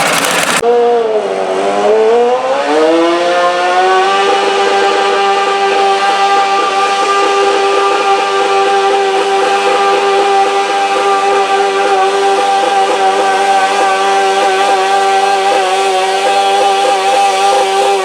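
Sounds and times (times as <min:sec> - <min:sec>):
tractor engine buzzing at high revs: 0:00.0 - 0:18.0.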